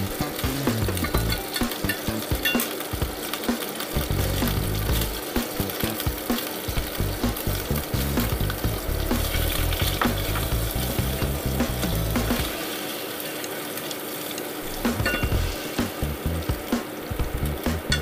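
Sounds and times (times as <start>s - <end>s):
onion and garlic sizzling in oil: 0.0s - 18.0s.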